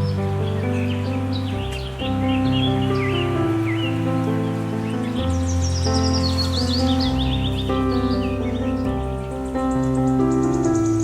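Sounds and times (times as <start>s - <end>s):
high bird chirps: 0.0s - 11.0s.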